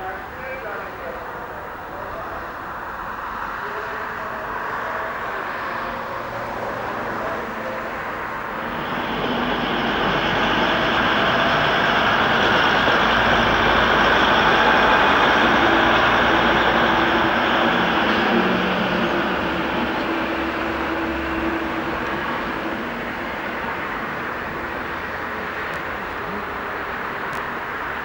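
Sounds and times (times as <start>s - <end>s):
diesel train rumbling: 0.0s - 28.0s.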